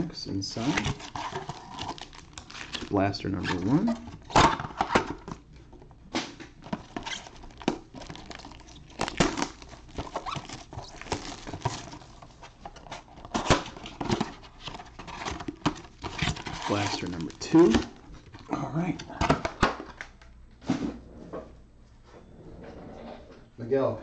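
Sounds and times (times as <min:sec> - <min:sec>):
card packs tapping and crinkling: 0:00.6 - 0:20.3.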